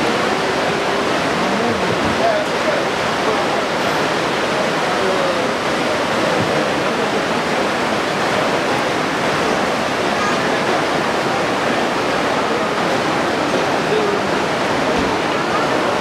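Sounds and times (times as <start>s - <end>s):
river rushing over rocky rapids: 0.0s - 16.0s.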